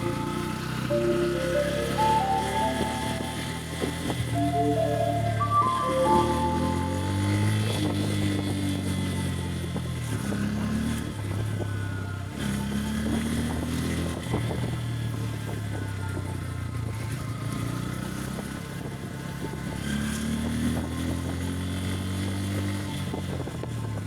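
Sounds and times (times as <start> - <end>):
road and wind rush: 0.0 - 24.0.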